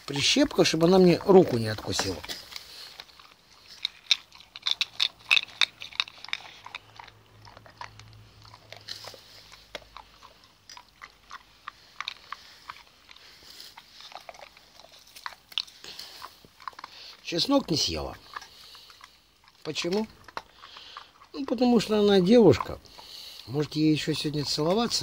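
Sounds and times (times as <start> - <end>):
dog chewing with crunching teeth: 0.0 - 25.0.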